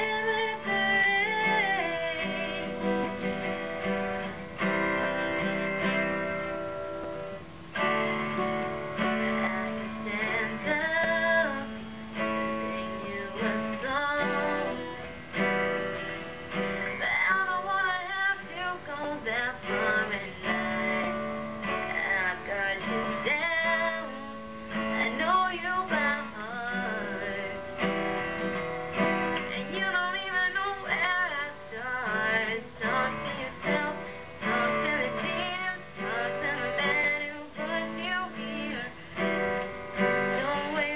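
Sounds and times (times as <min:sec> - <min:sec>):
woman singing pop ballad: 0:00.0 - 0:06.7, 0:07.8 - 0:40.9
strummed acoustic guitar: 0:00.0 - 0:40.9.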